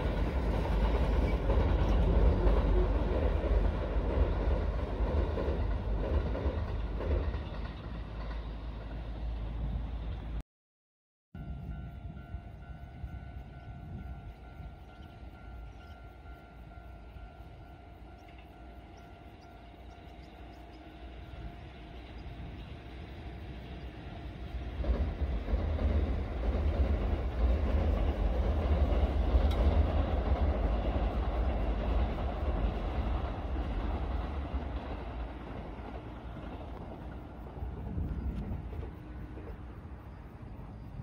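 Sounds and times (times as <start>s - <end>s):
train rumbling on rails: 0.0s - 10.4s, 11.4s - 41.0s.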